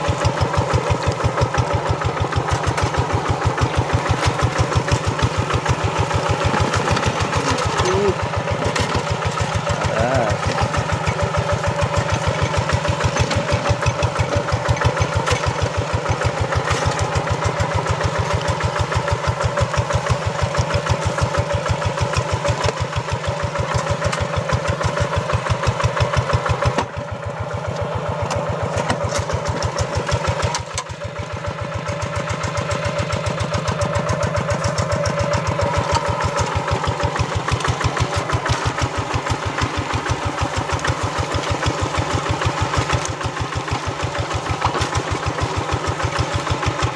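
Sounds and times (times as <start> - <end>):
diesel engine chugging: 0.0 - 46.9.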